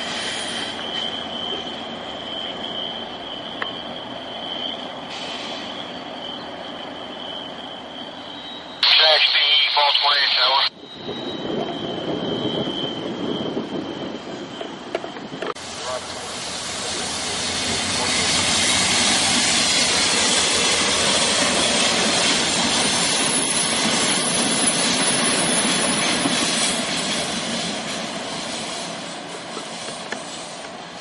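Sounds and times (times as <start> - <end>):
locomotive and train passing: 0.0 - 31.0.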